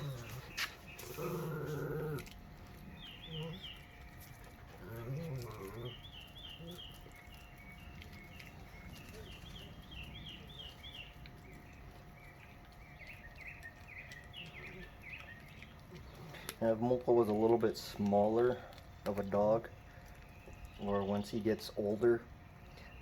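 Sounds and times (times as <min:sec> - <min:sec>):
songbird chirping: 0:00.0 - 0:23.0.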